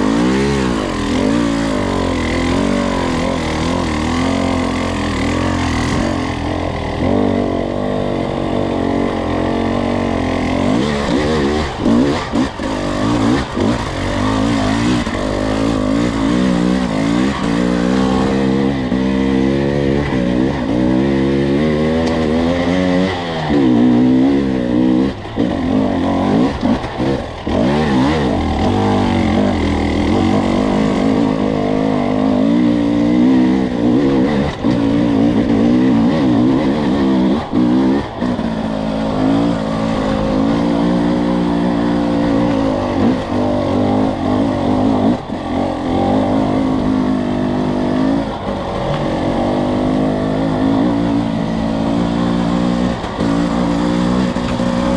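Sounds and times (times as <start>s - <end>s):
two-stroke dirt bike engine: 0.0s - 54.9s.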